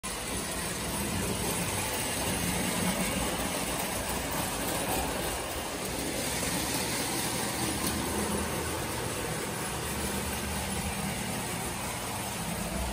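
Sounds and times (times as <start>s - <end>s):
toy train running on metal track: 0.0s - 12.9s.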